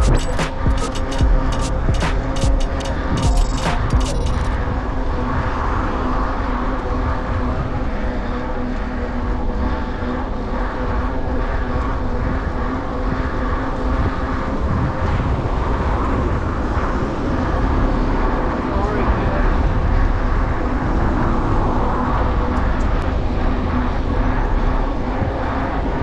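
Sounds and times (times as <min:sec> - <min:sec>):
low rumble: 0:00.0 - 0:26.0
rushing wind: 0:00.0 - 0:26.0
steady hum: 0:00.0 - 0:26.0.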